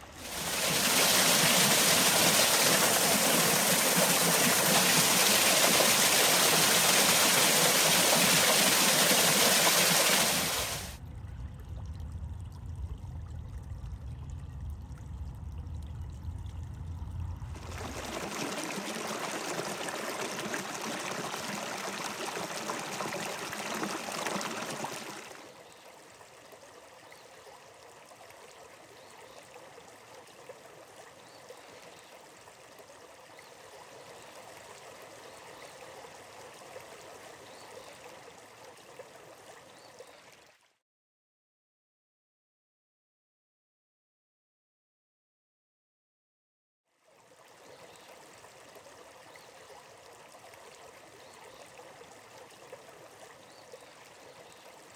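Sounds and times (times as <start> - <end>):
stream water flowing: 0.0 - 11.0, 11.6 - 40.7, 47.0 - 54.9.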